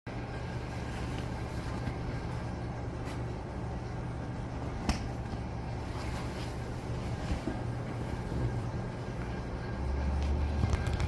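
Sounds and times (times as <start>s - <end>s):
street traffic rumble: 0.2s - 11.0s.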